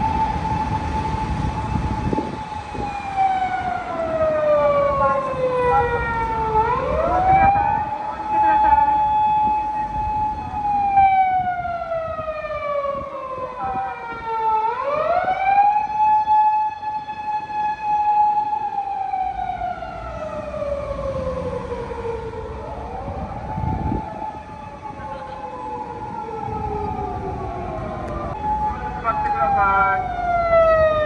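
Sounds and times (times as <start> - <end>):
police car siren wailing: 0.0 - 31.0.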